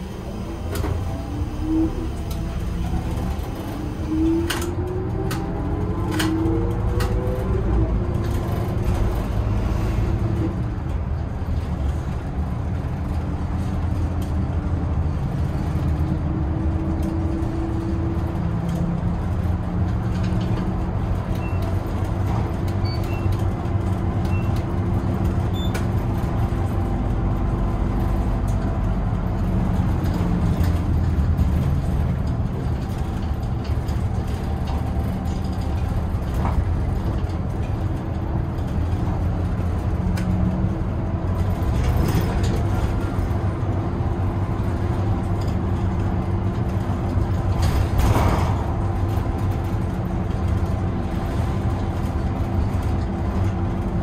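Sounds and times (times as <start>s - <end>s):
bus engine drone: 0.0s - 54.0s
road rumble: 0.0s - 54.0s.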